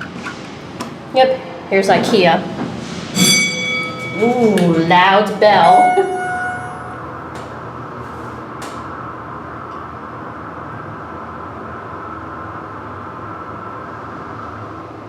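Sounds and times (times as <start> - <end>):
elevator hydraulic hum: 0.0 - 15.0.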